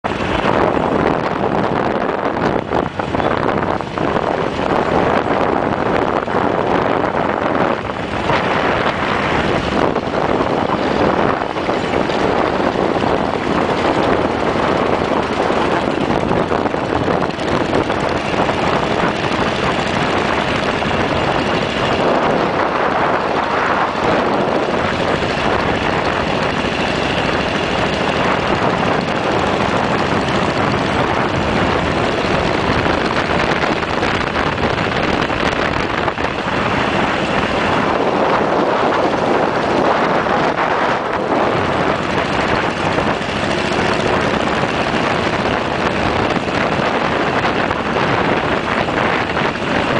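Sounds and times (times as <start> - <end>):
motorcycle engine running: 0.0 - 49.9
wind rush over microphone: 0.0 - 49.9.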